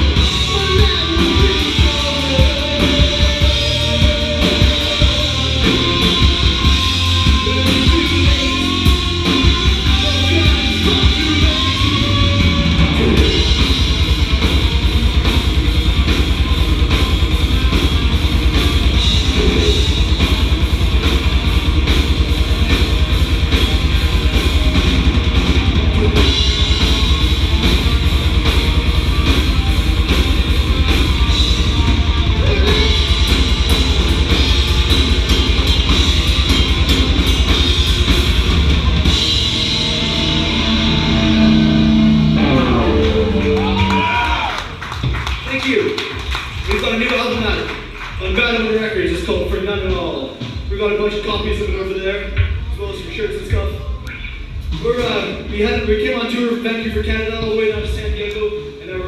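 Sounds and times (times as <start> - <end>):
heavy metal band playing: 0.0 - 59.0.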